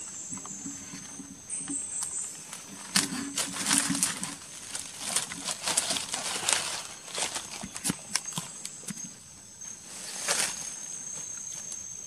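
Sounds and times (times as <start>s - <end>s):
dry leaves and twigs crackling: 0.0s - 12.0s
faint insect drone: 0.0s - 12.0s.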